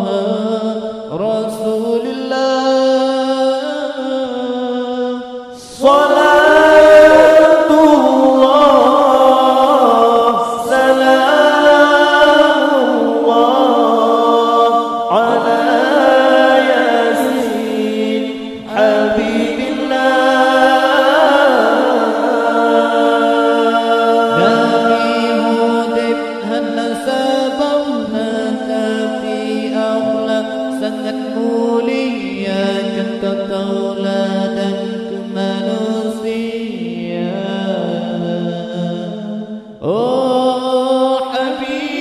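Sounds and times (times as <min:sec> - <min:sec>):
men singing in unison: 0:00.0 - 0:42.0.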